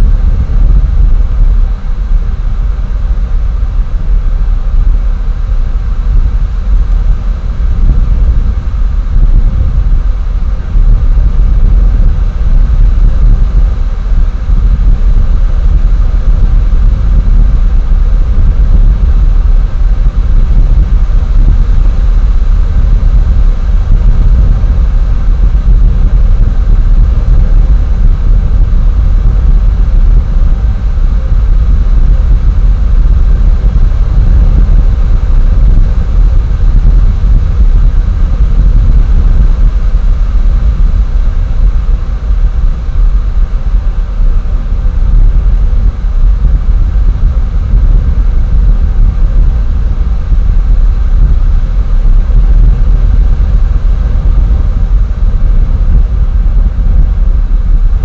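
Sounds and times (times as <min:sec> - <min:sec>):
loud low rumble with hiss: 0:00.0 - 0:58.0.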